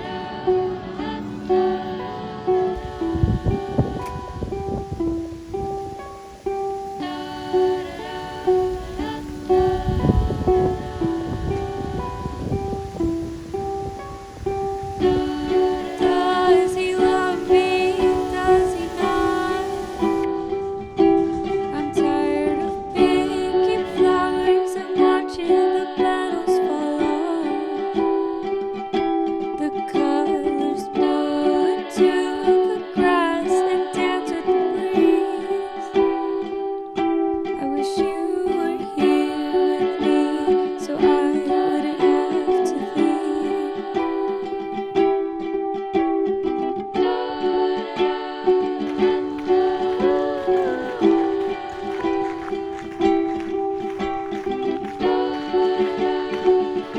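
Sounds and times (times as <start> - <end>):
gentle plucked-string tune: 0.0 - 56.9.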